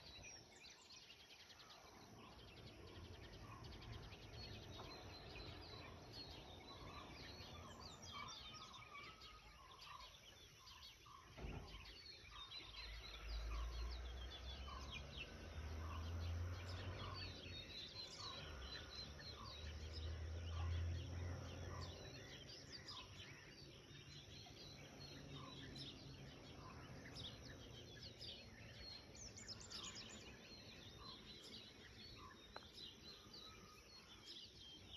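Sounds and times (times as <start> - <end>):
birds calling and chirping: 0.0 - 34.9.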